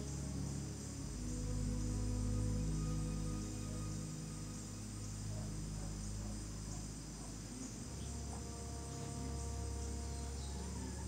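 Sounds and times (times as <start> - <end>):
crickets trilling: 0.0 - 11.0
soft ambient music: 0.0 - 11.0.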